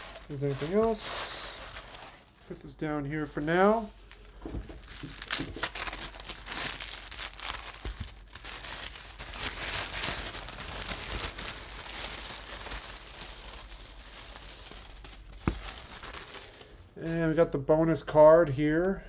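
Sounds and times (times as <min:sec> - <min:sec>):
tissue paper crinkling: 0:00.0 - 0:17.5.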